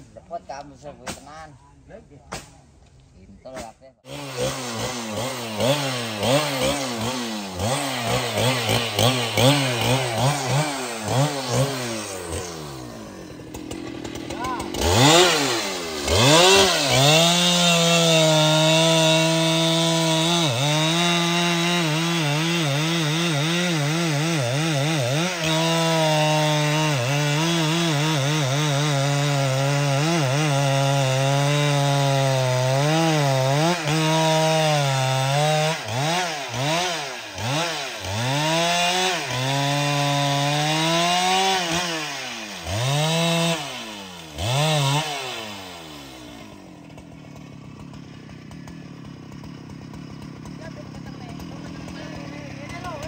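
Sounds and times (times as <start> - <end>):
chainsaw cutting wood: 3.5 - 53.0.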